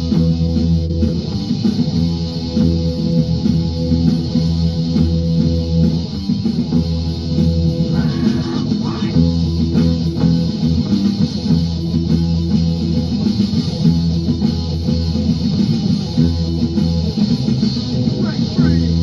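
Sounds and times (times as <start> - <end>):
bass guitar: 0.0 - 19.0
electric guitar riff: 0.0 - 19.0.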